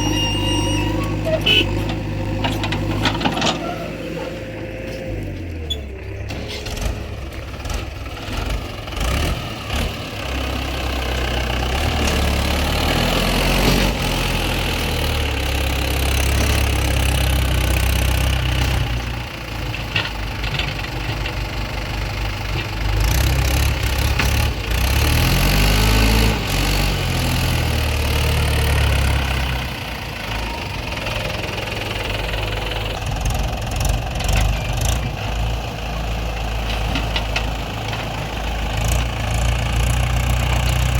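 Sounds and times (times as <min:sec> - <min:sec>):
diesel machinery engine revving: 0:00.0 - 0:40.9.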